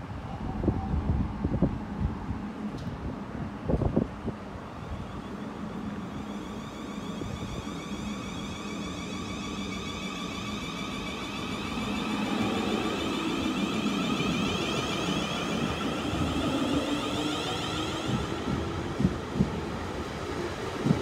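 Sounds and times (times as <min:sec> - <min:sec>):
train high whine: 0:00.0 - 0:21.0
train low rumble: 0:00.0 - 0:21.0.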